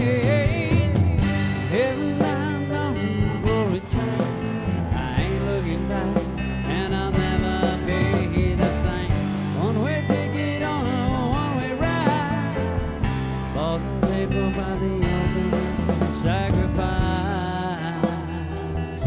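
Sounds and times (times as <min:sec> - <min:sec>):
rock song with steady beat: 0:00.0 - 0:19.0.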